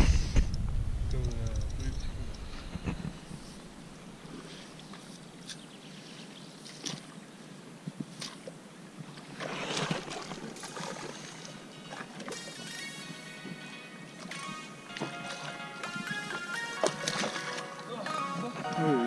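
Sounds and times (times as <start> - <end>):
shallow water sloshing and splashing: 2.2 - 13.2, 14.2 - 18.6.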